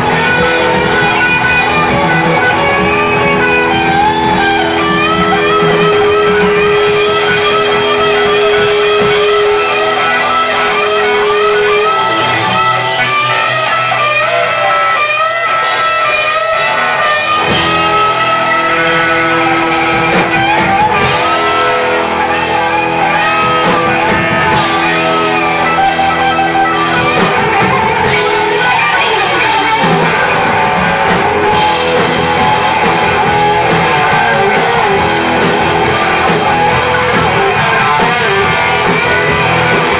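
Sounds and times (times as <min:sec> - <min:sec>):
distorted lead guitar bending notes: 0:00.0 - 0:39.9
drums and cymbals: 0:00.0 - 0:39.9
rock band playing: 0:00.0 - 0:39.9.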